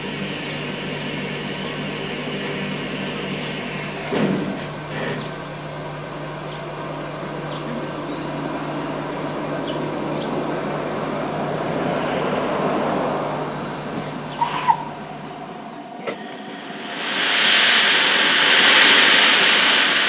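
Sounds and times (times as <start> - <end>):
constant low hum: 0.0 - 20.0
steam locomotive rushing: 0.0 - 20.0.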